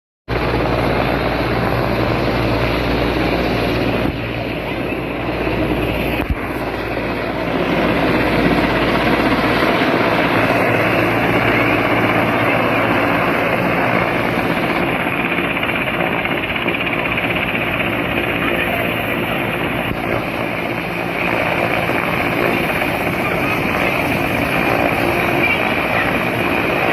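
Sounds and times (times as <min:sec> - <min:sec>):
helicopter rotor and engine: 0:00.3 - 0:26.9.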